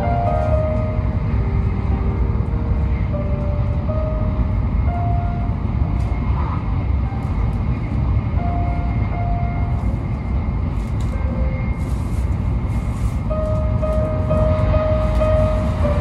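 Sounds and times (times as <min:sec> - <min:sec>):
soft background music: 0:00.0 - 0:16.0
train rumble inside cabin: 0:00.0 - 0:16.0.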